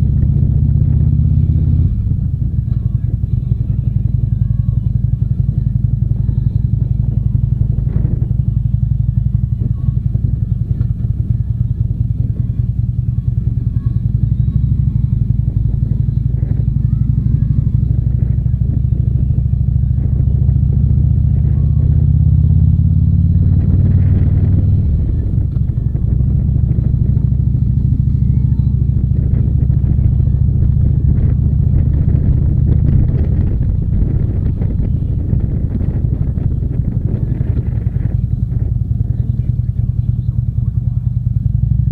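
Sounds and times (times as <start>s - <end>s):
motorcycle engine rumble: 0.0s - 41.9s.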